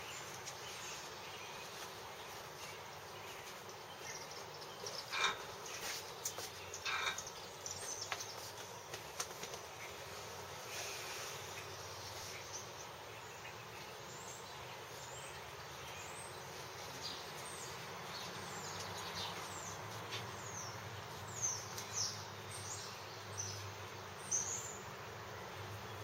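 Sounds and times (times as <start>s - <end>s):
small birds chirping: 0.0s - 26.0s
steady outdoor hiss: 0.0s - 26.0s.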